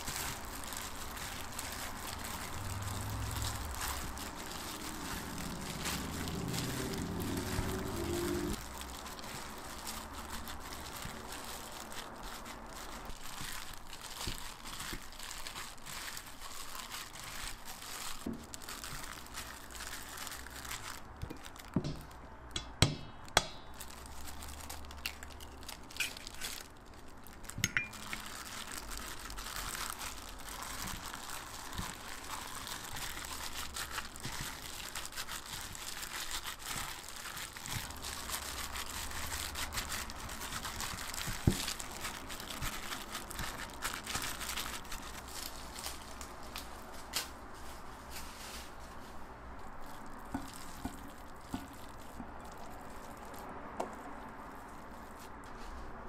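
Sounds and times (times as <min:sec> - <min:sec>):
gloved hand kneading sticky mix: 0:00.0 - 0:56.0
plastic glove crinkling: 0:00.0 - 0:56.0.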